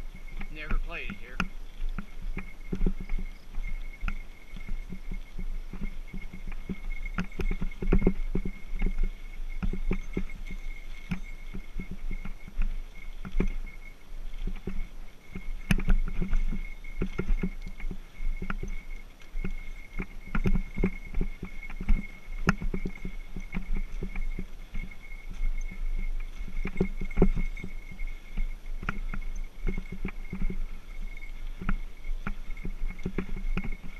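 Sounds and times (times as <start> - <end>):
bike knocks and rattles: 0.0 - 33.9
low tyre rumble: 0.0 - 33.9.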